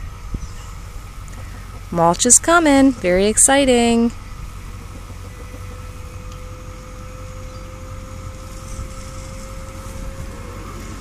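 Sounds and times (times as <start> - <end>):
thin steady whine: 0.0 - 11.0
truck engine idling: 0.0 - 11.0.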